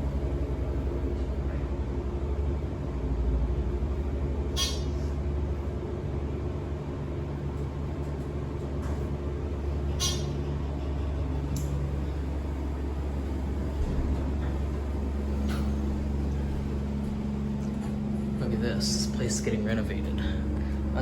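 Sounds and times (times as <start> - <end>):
elevator mechanical hum: 0.0 - 21.0.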